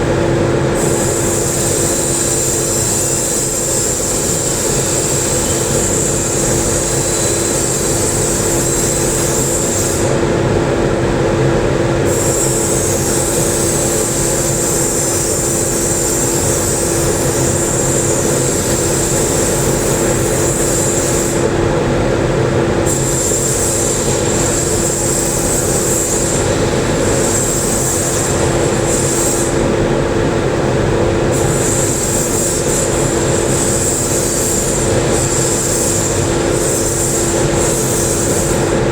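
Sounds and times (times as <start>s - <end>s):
welding buzzing hum: 0.0s - 38.9s
high welding hiss: 0.8s - 10.2s, 12.0s - 21.5s, 22.9s - 29.7s, 31.3s - 38.9s.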